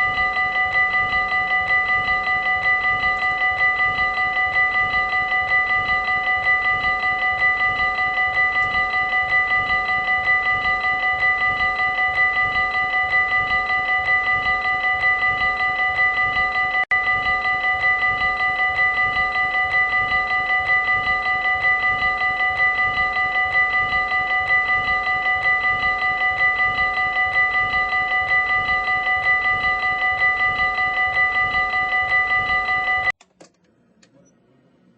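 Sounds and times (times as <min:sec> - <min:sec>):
level crossing warning bell: 0:00.0 - 0:33.2.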